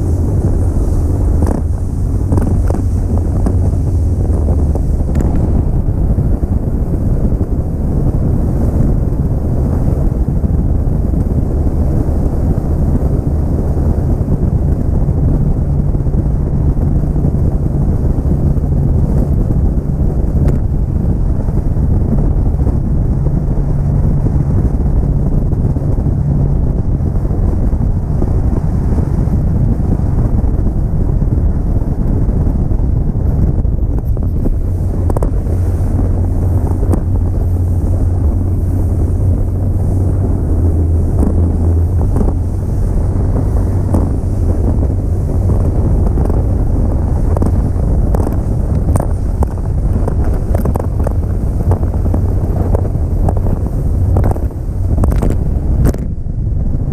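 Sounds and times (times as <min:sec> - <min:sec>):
outboard motor drone: 0:00.0 - 0:56.9
wind buffeting microphone: 0:00.0 - 0:56.9.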